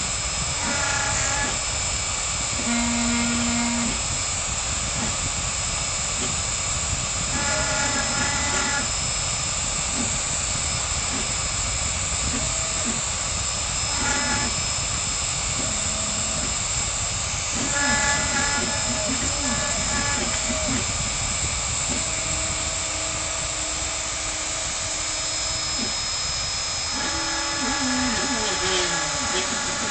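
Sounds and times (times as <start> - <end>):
router spindle running: 0.0 - 29.9
stepper motors whining: 0.0 - 29.9.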